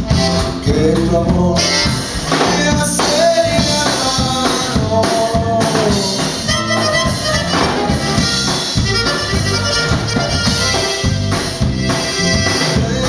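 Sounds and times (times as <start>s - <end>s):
drums beating: 0.0s - 13.0s
live band playing: 0.0s - 13.0s.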